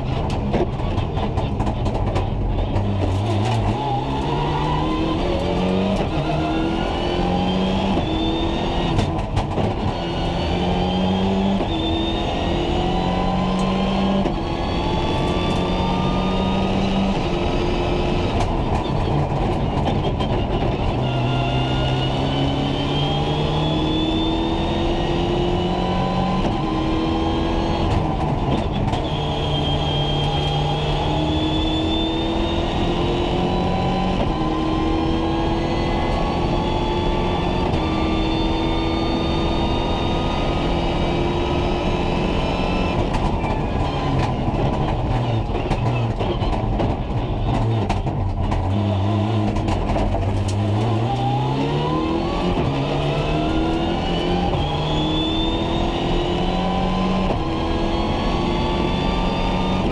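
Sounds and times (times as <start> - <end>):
rally car engine accelerating: 0.0 - 59.9.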